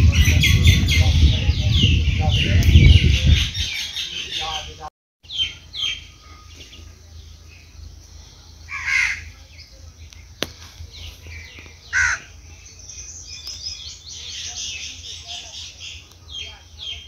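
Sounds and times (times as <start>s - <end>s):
bird calls: 0.0s - 17.0s.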